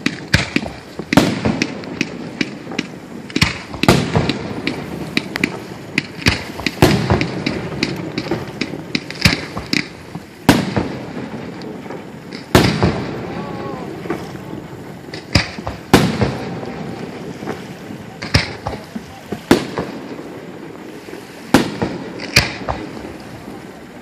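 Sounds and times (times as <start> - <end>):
firework bangs and crackles: 0.0 - 24.0
firework booms with rumble: 0.0 - 24.0.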